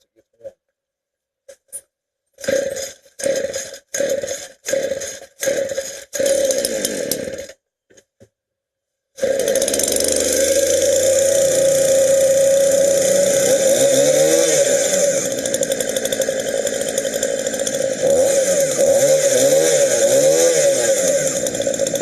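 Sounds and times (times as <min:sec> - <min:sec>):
chainsaw starting and running: 0:02.4 - 0:07.6, 0:09.2 - 0:22.0.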